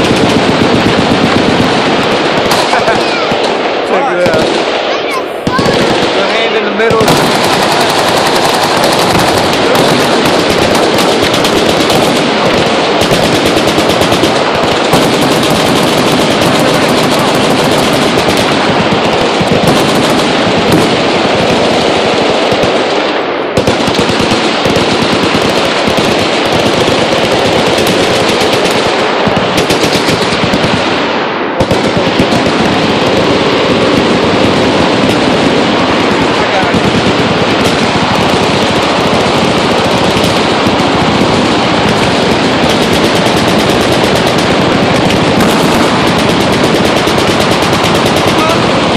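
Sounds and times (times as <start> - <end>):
machine gun fire: 0.0 - 48.9.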